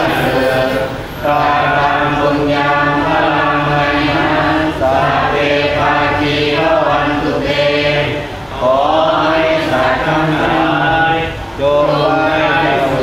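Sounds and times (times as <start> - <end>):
voices chanting together: 0.0 - 13.0.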